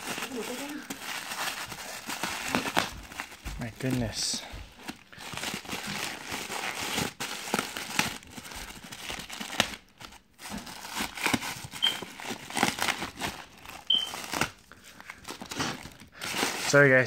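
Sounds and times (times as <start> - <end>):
plastic wrap crackling: 0.0 - 17.0.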